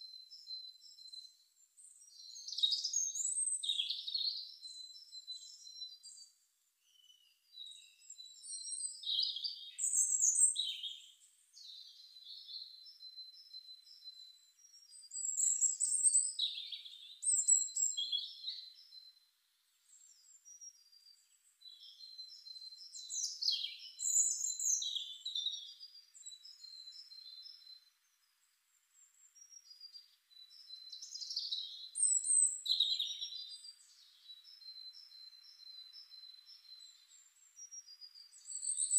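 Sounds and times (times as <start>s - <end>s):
songbirds chirping and whistling: 0.0s - 38.9s.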